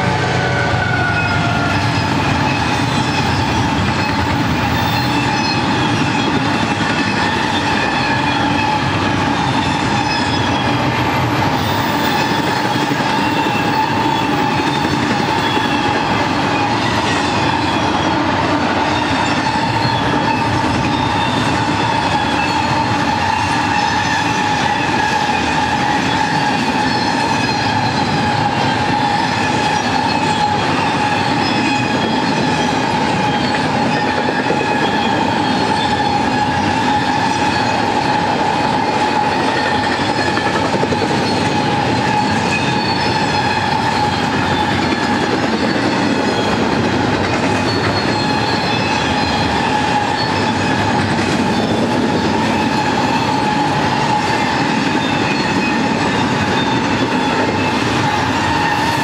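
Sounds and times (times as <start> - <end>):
high-pitched squeal: 0.0 - 59.0
train wheels rumbling on rails: 0.0 - 59.0.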